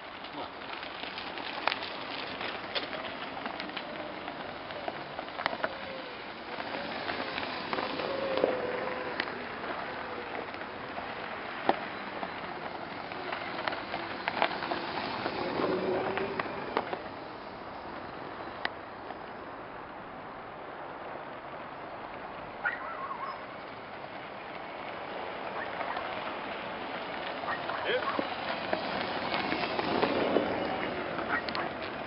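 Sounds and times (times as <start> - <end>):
tyres rolling over gravel: 0.0 - 32.0.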